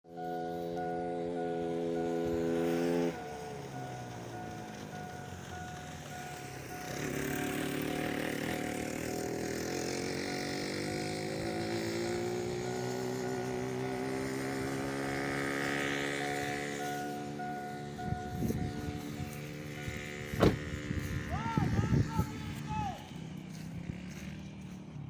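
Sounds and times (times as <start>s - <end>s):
small engine revving up: 0.1s - 25.0s.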